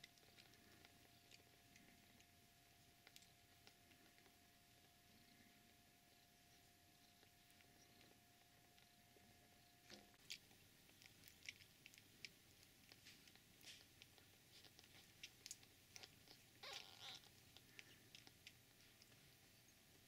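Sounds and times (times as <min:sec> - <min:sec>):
kittens suckling wet clicks: 0:00.0 - 0:20.0.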